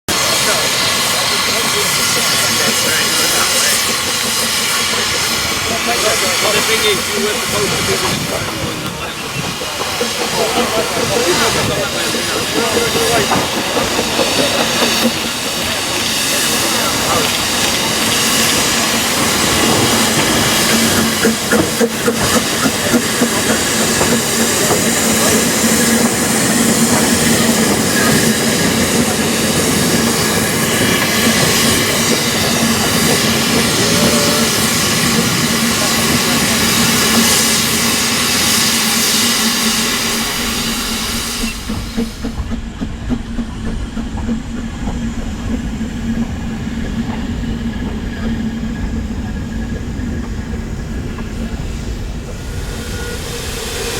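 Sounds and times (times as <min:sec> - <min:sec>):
steam locomotive hissing steam: 0:00.1 - 0:53.9.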